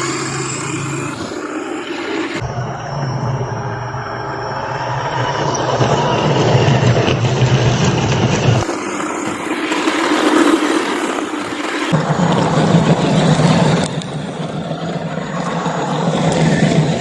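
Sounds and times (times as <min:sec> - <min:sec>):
rc car motor and tyres: 0:00.0 - 0:17.0.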